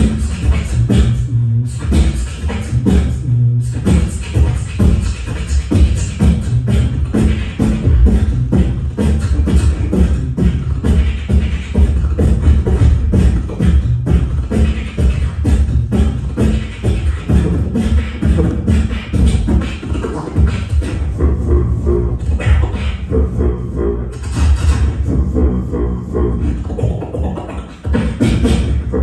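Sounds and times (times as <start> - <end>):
beatboxing into a microphone: 0.0 - 29.0.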